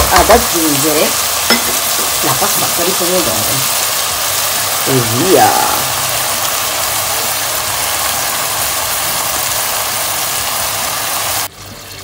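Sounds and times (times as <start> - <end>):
minced meat sizzling in a pan: 0.0 - 12.0.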